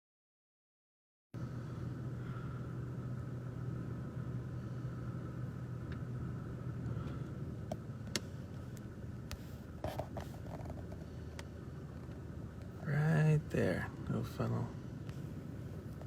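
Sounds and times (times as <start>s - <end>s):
car engine hum: 1.4s - 16.0s
road noise: 1.4s - 16.0s.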